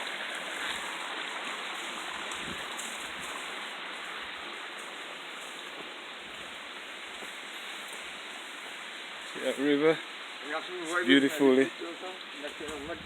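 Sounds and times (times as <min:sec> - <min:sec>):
river water rushing: 0:00.0 - 0:12.5.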